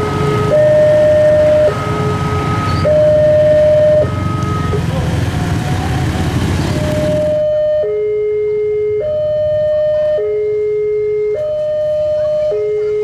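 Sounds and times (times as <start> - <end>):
two-tone crossing warning alarm: 0.0 - 4.8, 6.8 - 13.0
motorcycles rumbling: 0.0 - 13.0.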